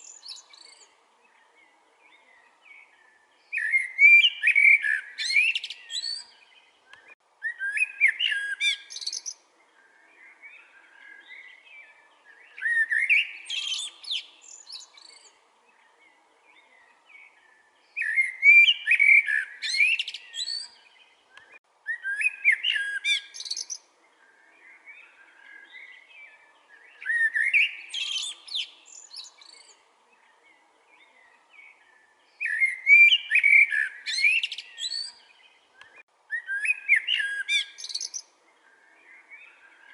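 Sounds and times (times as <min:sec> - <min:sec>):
blackbird singing: 0:00.0 - 0:39.9
soft bird twittering: 0:00.0 - 0:39.9.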